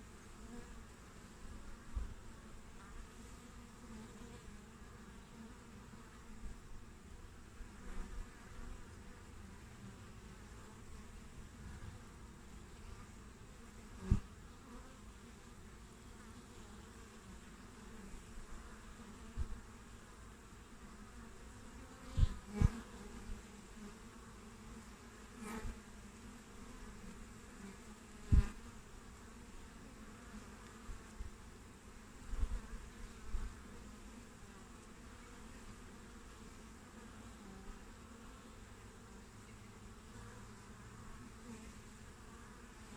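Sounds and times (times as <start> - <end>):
bee buzzing close past: 0.0 - 42.9
bees humming at hive: 0.0 - 42.9.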